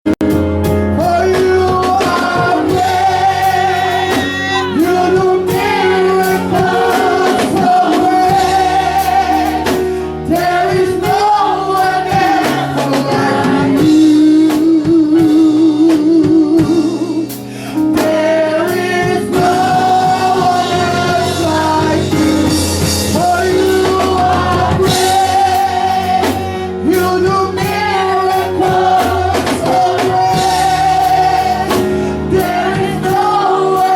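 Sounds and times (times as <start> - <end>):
band with drums: 0.2 - 33.9
gospel singing with vibrato: 0.3 - 33.9.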